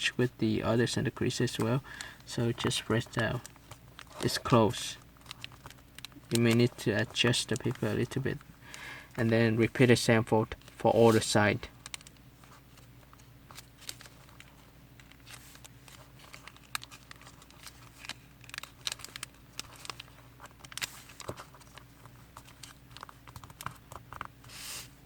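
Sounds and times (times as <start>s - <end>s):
faint low hum: 0.0s - 25.0s
paper crinkling and rustling: 0.8s - 8.4s, 10.4s - 25.0s.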